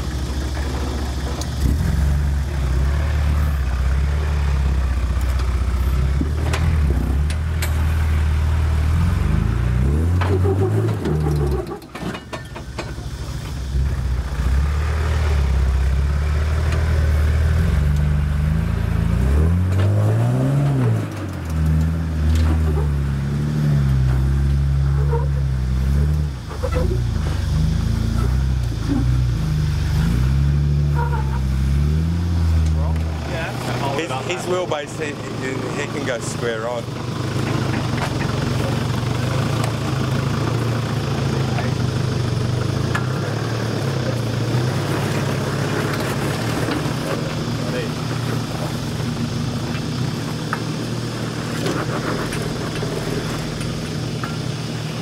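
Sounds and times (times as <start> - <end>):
car engine revving under load: 0.0 - 12.3, 12.9 - 55.0.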